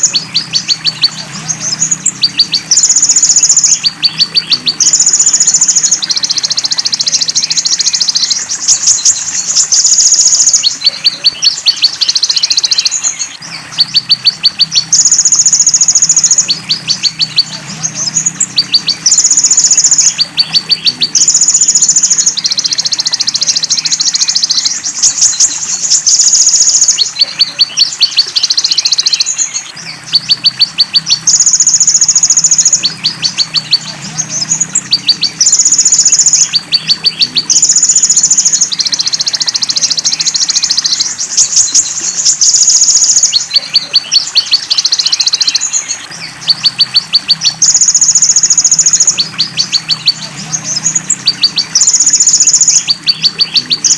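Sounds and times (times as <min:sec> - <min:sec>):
sunbird singing shrill phrases: 0:00.0 - 0:53.9.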